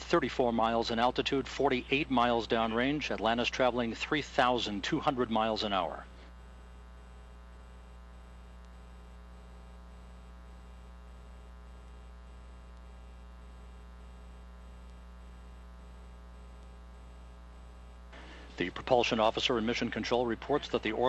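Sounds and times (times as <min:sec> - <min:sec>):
electrical hum and buzz: 0:00.0 - 0:21.0.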